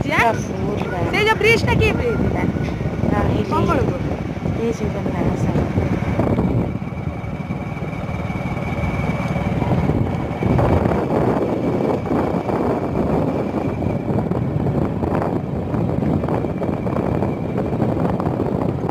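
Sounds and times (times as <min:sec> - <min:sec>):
faint high whine: 0:00.0 - 0:18.4.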